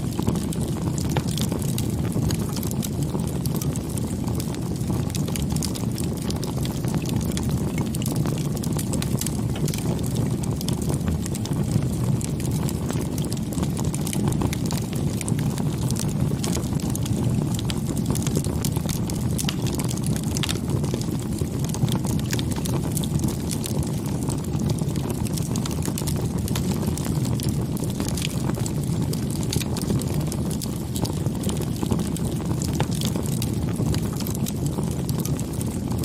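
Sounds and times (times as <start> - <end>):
fire crackling and popping: 0.0 - 36.0
wood fire rumbling: 0.0 - 36.0.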